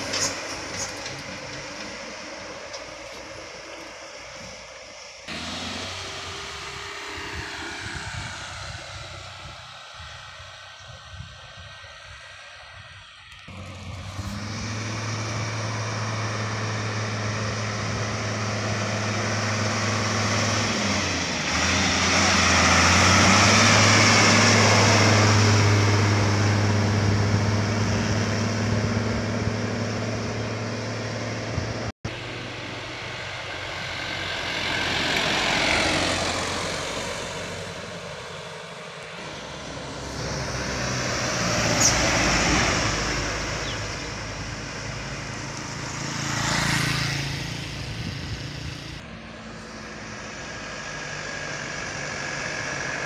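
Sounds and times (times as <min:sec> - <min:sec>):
truck diesel engine pulling uphill: 0:00.0 - 0:53.0
vehicles passing: 0:00.0 - 0:53.0.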